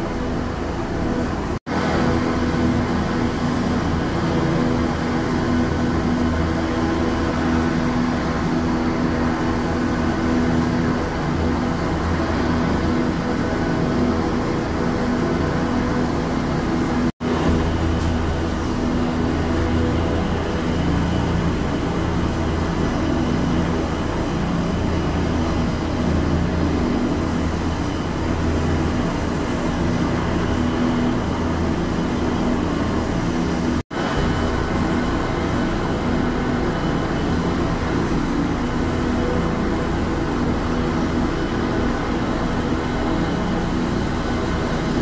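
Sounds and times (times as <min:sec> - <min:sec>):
helicopter turbine and rotor rumble: 0:00.0 - 0:45.0.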